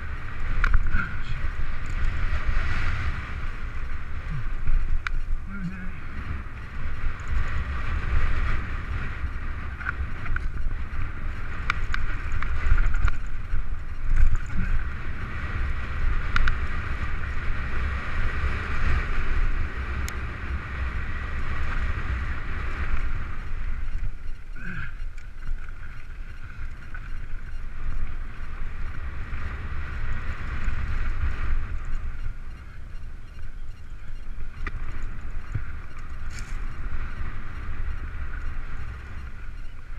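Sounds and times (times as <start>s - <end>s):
bike clicks and rattles: 0.0s - 39.9s
low rumble of trail vibration: 0.0s - 39.9s
wind buffeting microphone: 0.0s - 39.9s.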